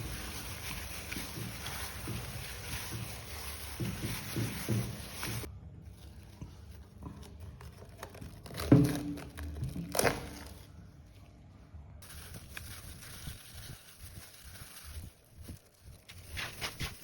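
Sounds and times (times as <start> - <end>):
rustling and crinkling handling: 0.0 - 17.0.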